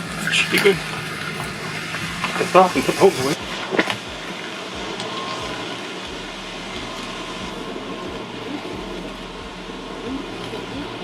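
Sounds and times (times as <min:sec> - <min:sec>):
faint low thuds: 0:00.0 - 0:11.0
vehicle engine and road noise: 0:00.0 - 0:11.0.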